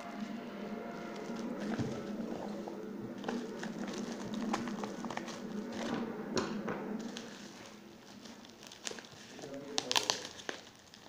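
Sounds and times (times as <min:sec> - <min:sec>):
bubble wrap crinkling: 0:00.0 - 0:05.9, 0:07.0 - 0:11.0
steady low hum: 0:00.0 - 0:09.8.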